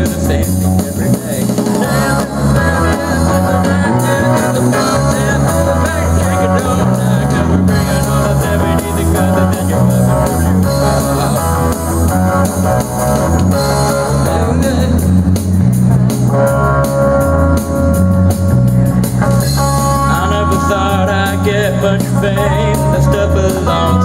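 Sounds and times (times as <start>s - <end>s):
electric guitar: 0.0s - 24.0s
live funk band playing: 0.0s - 24.0s.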